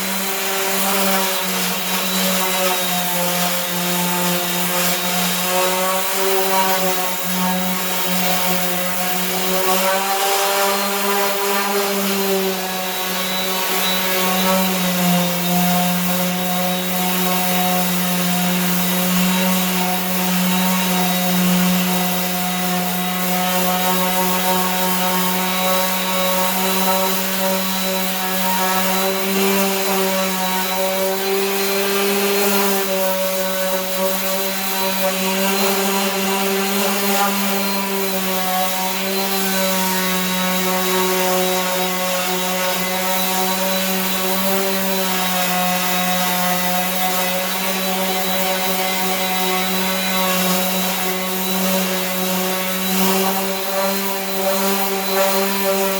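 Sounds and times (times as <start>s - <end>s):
power sander on filler: 0.0s - 55.9s.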